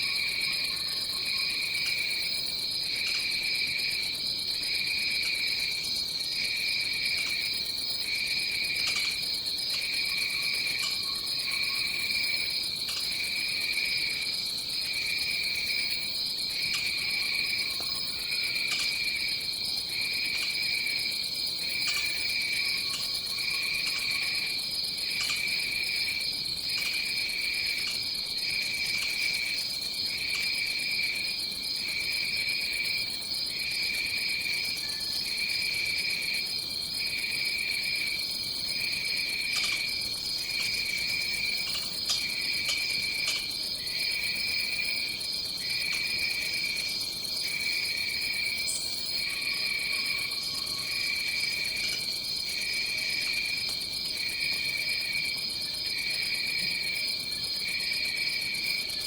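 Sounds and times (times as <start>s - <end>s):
high-pitched insect trill: 0.0s - 59.0s
lower pulsing insect call: 0.0s - 59.0s.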